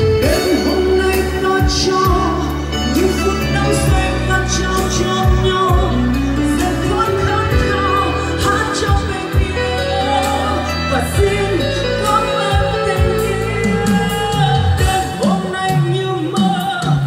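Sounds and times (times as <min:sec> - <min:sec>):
amplified backing music with bass: 0:00.0 - 0:17.0
woman singing into a microphone: 0:00.0 - 0:17.0.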